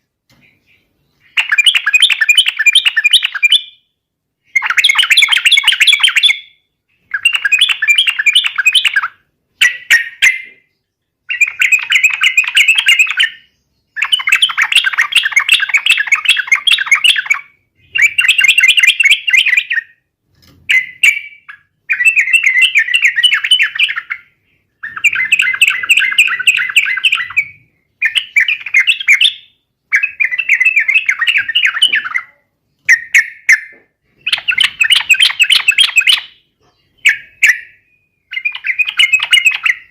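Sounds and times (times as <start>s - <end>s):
bird rapid warbling song: 0.0s - 39.9s.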